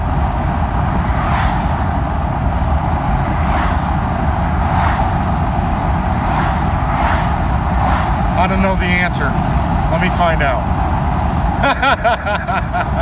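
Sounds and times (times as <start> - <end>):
engine and tyre rumble: 0.0 - 13.0
wind noise: 0.0 - 13.0.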